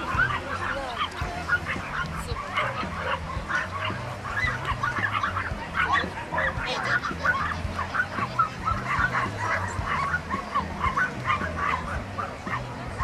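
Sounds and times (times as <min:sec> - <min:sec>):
dogs barking and yapping: 0:00.0 - 0:13.0.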